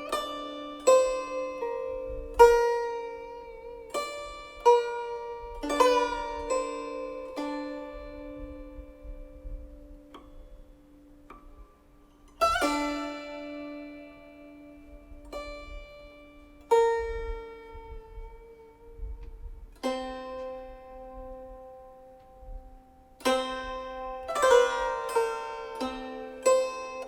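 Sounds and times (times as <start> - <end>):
guzheng plucked notes: 0.0 - 27.0.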